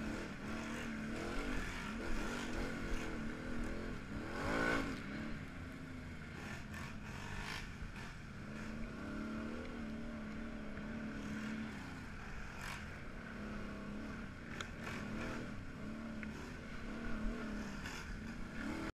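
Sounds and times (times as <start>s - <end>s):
engine revving: 0.0s - 18.9s.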